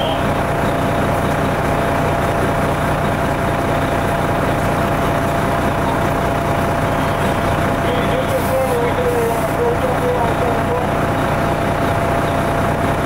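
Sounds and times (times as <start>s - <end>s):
fire engine running: 0.0s - 13.0s.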